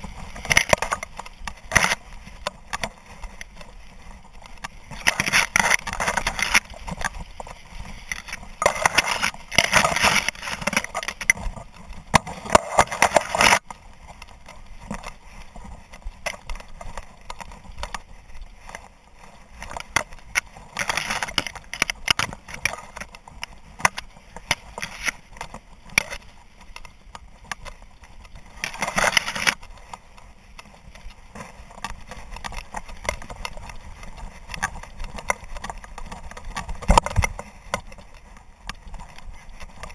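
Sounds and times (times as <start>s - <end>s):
dry grass rustling against camera: 0.0s - 39.9s
small clicks and knocks: 0.0s - 39.9s.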